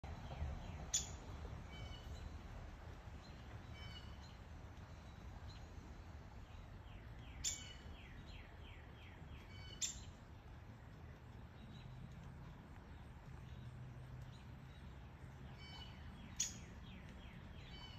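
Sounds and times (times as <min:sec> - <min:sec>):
light rain hiss: 0:00.1 - 0:17.9
birds calling: 0:00.2 - 0:17.9.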